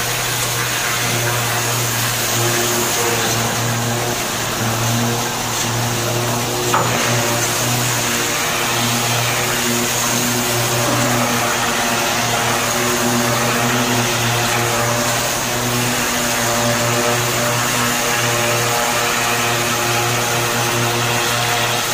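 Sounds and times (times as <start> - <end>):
machinery droning: 0.0 - 21.9.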